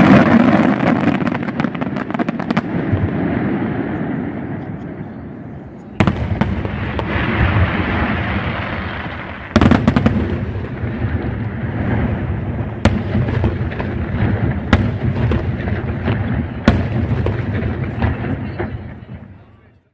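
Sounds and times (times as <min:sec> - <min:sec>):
sharp firework bangs: 0:00.0 - 0:05.0, 0:06.0 - 0:19.4
fireworks bursts with crackle: 0:00.0 - 0:19.9.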